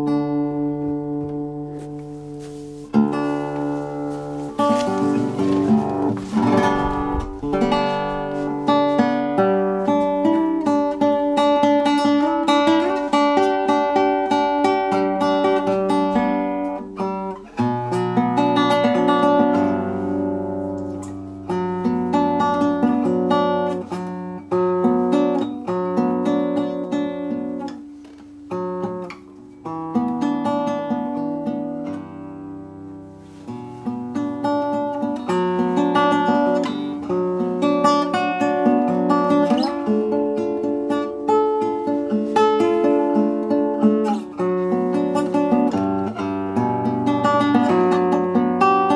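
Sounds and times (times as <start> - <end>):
acoustic guitar plucked melody: 0.0 - 48.9.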